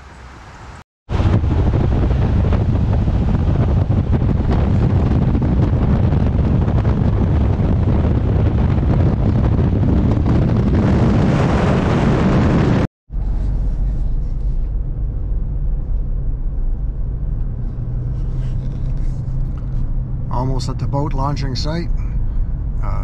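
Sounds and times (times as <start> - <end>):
wind and road noise: 0.0 - 23.0
heavy low rumble: 1.1 - 23.0
wind buffeting microphone: 1.1 - 23.0.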